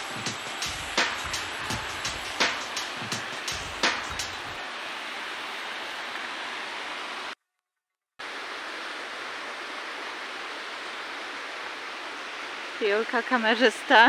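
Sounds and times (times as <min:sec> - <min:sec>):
flowing water rushing: 0:00.0 - 0:07.4, 0:08.2 - 0:14.0.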